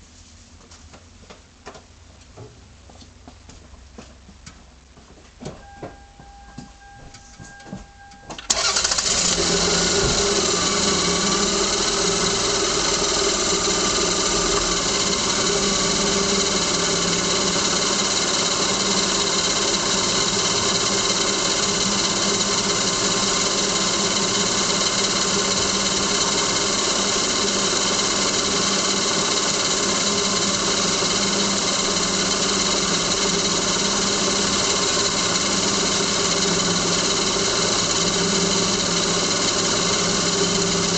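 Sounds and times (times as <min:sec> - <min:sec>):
car engine starting and idling: 0:06.8 - 0:40.9.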